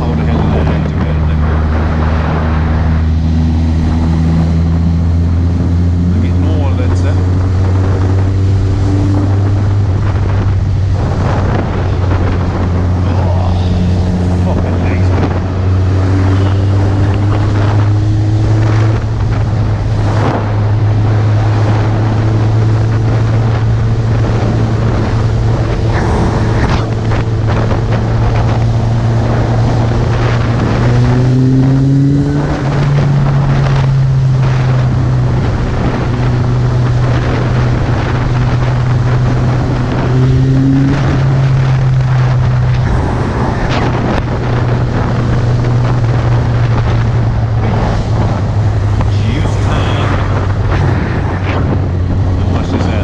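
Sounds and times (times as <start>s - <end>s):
motorcycle engine cruising: 0.0s - 53.0s
wind noise on microphone: 0.0s - 53.0s.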